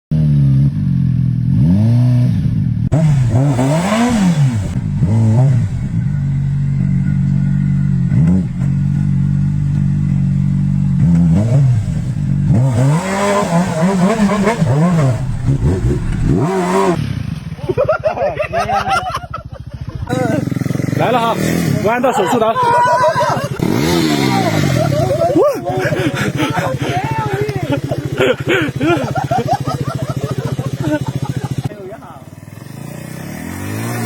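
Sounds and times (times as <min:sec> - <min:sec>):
motorcycle engine revving: 0:00.1 - 0:18.1, 0:19.2 - 0:22.5, 0:23.3 - 0:34.0.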